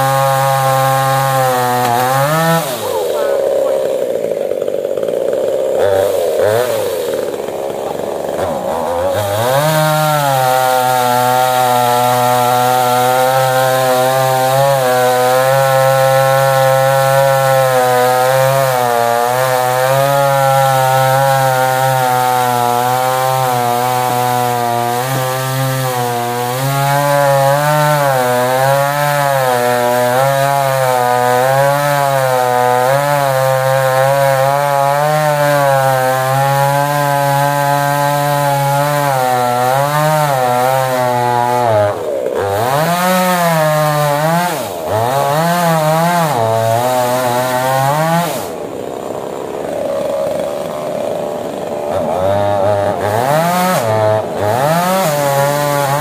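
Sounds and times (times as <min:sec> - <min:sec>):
chainsaw revving and cutting wood: 0:00.0 - 0:56.0.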